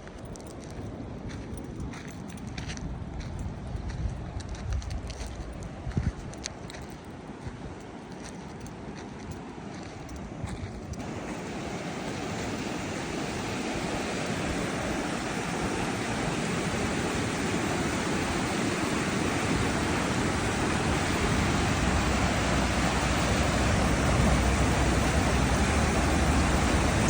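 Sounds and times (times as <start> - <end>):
rushing mountain stream: 0.1 - 27.0.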